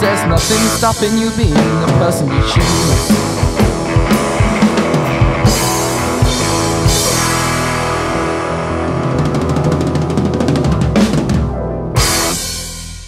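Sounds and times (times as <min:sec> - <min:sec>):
fast drum roll: 0:00.0 - 0:12.9
blues-rock band playing: 0:00.0 - 0:13.0.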